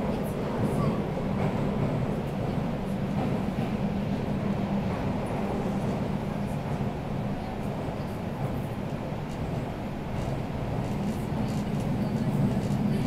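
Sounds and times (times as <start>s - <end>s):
metro train on rails: 0.0s - 13.0s.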